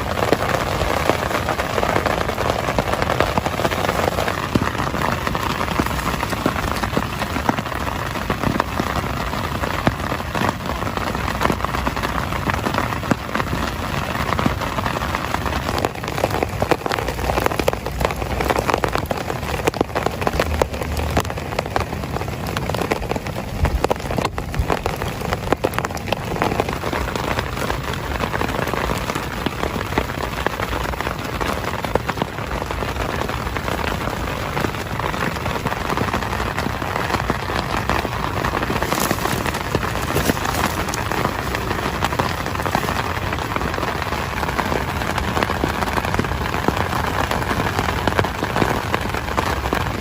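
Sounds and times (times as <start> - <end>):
heavy rain patter: 0.0 - 50.0.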